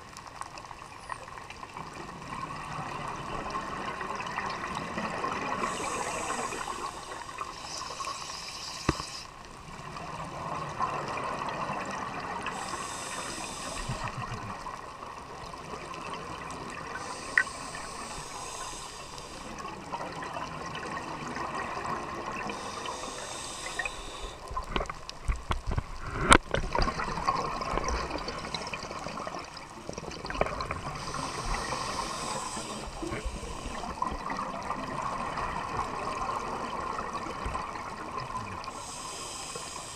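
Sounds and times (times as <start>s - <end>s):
steady underwater hiss: 0.0s - 39.9s
exhaled bubbles underwater: 1.7s - 8.2s, 9.0s - 39.9s.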